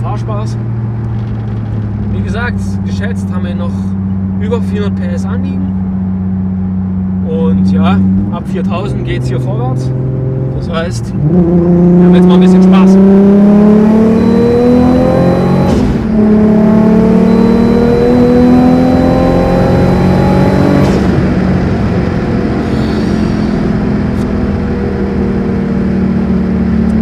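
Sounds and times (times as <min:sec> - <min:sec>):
turbocharged car engine accelerating: 0:00.0 - 0:27.0.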